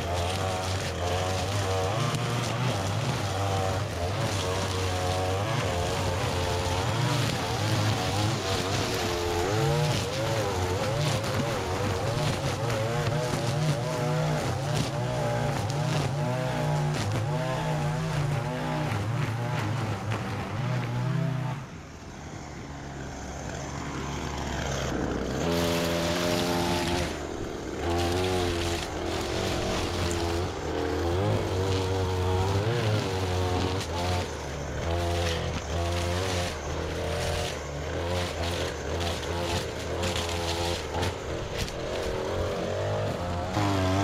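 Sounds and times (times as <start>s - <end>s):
string trimmer engine cutting grass: 0.0s - 44.0s.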